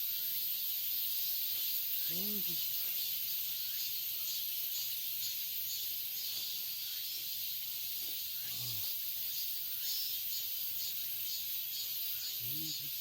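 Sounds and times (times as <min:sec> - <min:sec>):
cicadas calling: 0:00.0 - 0:13.0.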